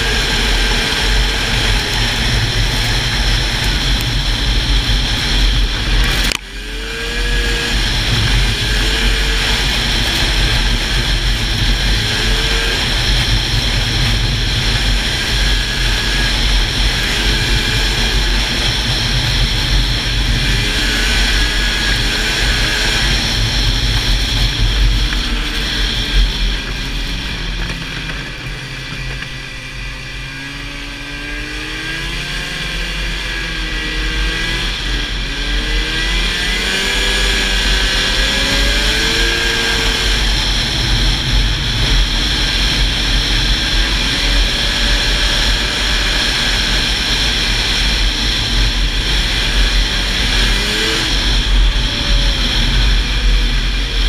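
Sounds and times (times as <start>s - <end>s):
snowmobile engine running: 0.0s - 54.0s
wind rushing over microphone: 0.0s - 54.0s.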